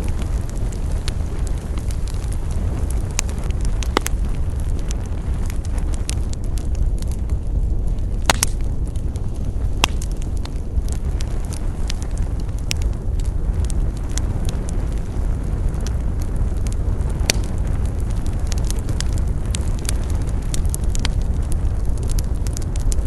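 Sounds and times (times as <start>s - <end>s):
fire crackles and pops: 0.0s - 23.0s
wood fire roaring: 0.0s - 23.0s.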